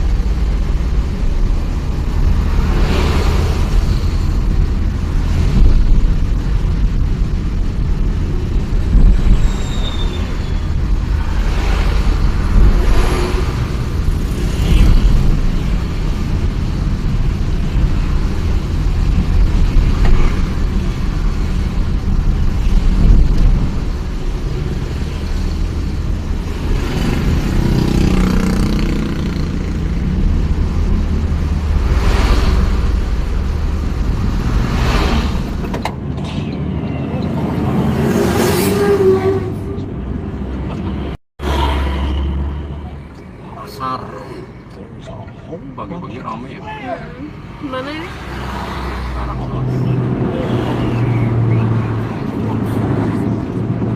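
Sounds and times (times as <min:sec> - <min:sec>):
heavy traffic engine rumble: 0:00.0 - 0:53.9.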